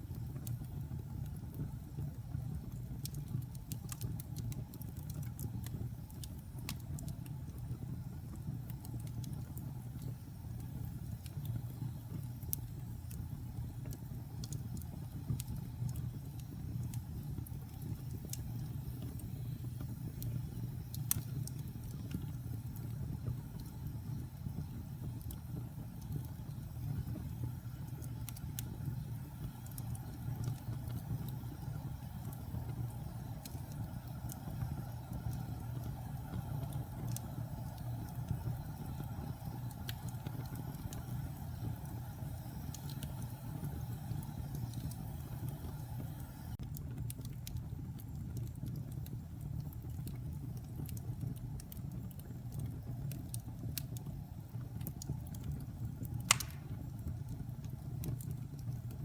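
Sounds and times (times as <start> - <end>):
fire low rumble: 0.0 - 59.0
wood fire crackles and pops: 0.0 - 59.0.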